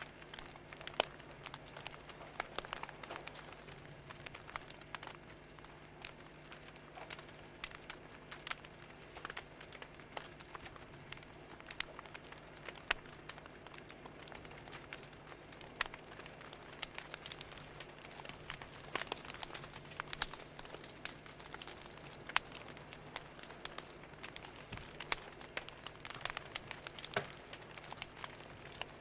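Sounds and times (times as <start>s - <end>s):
fire crackling: 0.0s - 29.0s
soft steady hiss: 0.0s - 29.0s.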